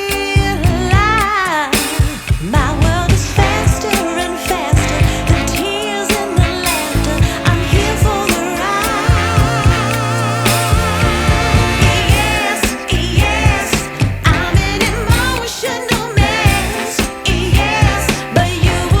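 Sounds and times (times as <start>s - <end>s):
pop song with vibrato vocals: 0.0s - 19.0s.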